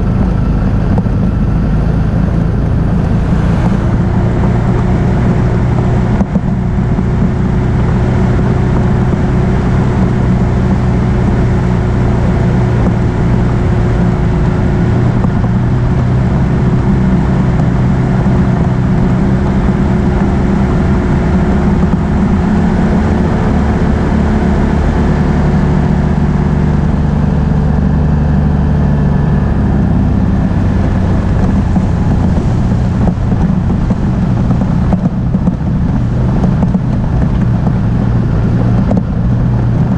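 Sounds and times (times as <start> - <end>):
atv engine running: 0.0 - 39.9
rushing noise: 0.0 - 39.9.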